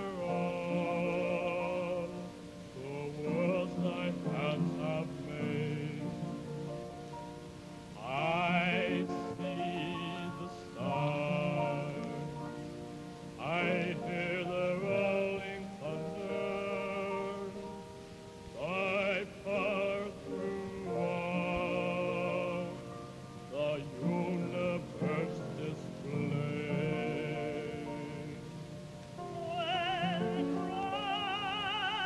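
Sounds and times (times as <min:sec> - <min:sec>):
man singing gospel: 0:00.0 - 0:06.9, 0:07.9 - 0:32.0.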